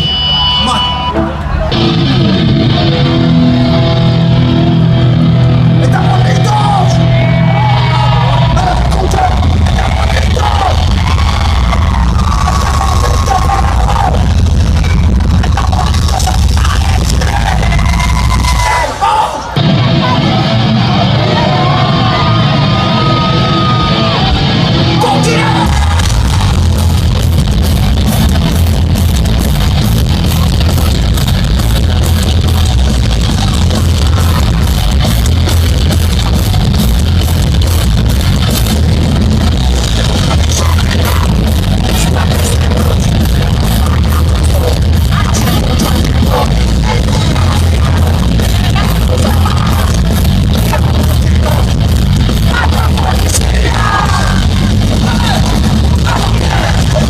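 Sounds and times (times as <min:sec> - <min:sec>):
heavy metal band playing live: 0:00.0 - 0:57.0
lone guitar line: 0:00.0 - 0:57.0.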